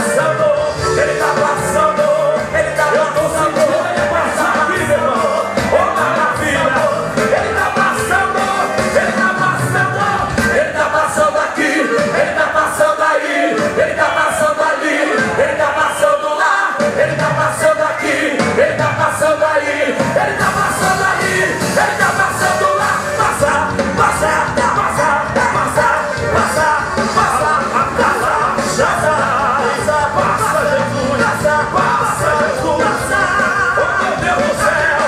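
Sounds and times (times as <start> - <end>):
voices singing worship song: 0.0 - 35.0.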